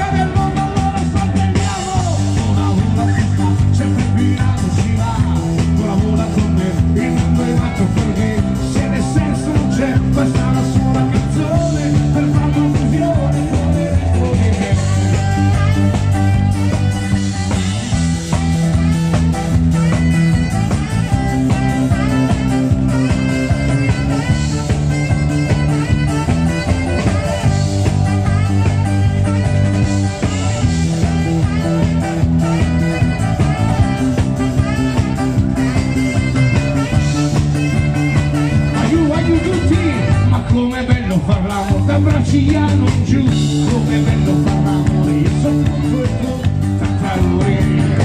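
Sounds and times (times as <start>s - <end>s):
amplified electric guitar: 0.0s - 48.0s
low bass line: 0.0s - 48.0s.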